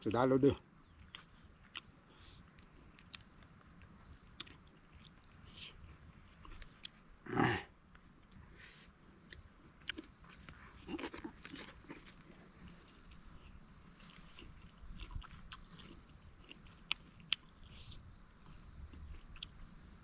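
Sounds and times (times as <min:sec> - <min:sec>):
chewing and lip-smacking: 0:00.9 - 0:07.0, 0:09.2 - 0:19.9.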